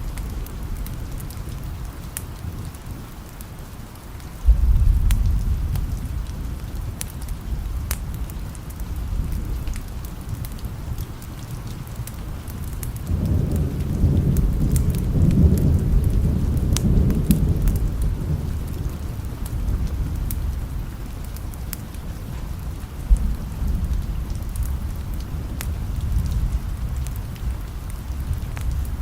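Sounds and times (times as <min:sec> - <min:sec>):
steady rain with ticks: 0:00.0 - 0:29.0
rolling thunder rumble: 0:04.4 - 0:29.0.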